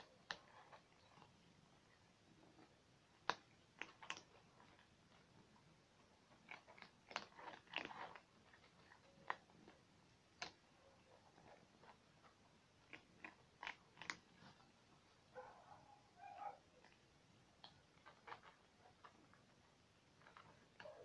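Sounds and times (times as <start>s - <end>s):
cats crunching food: 0.0s - 15.4s, 16.6s - 21.0s.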